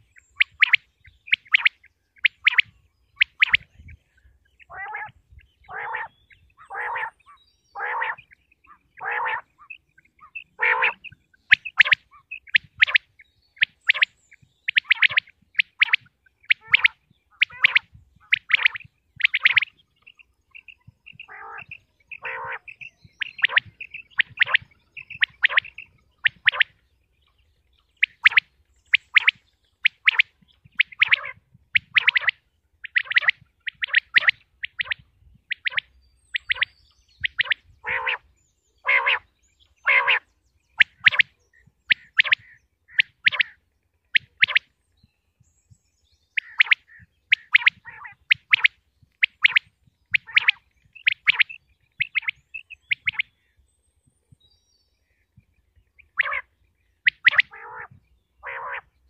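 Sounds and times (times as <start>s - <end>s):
quail calling: 0.0s - 4.0s, 4.6s - 26.8s, 28.0s - 44.7s, 46.4s - 53.4s, 56.0s - 58.9s.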